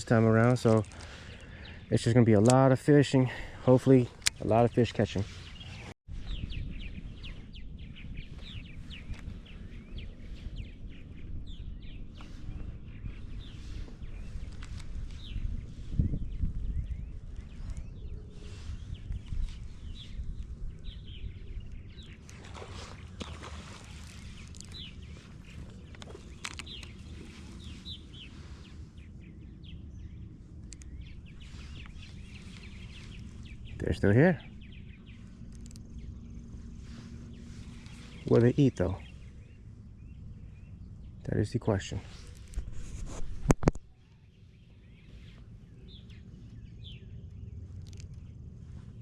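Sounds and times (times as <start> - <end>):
songbirds chirping: 0.0 - 49.0
low background rumble: 3.3 - 49.0.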